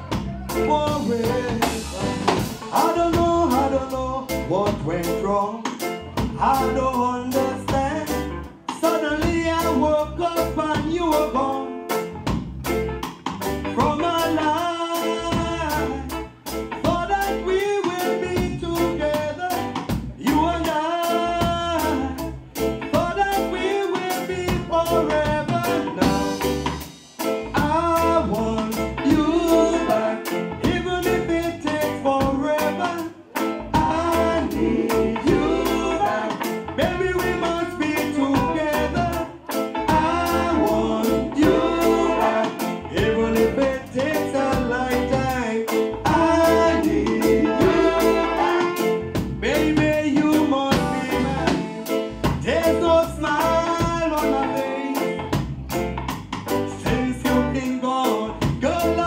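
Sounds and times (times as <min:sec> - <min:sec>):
man singing: 0:00.0 - 0:12.0, 0:13.7 - 0:26.8, 0:27.4 - 0:55.4, 0:56.5 - 0:59.0
drum kit: 0:00.0 - 0:59.0
electric guitar: 0:00.0 - 0:59.0.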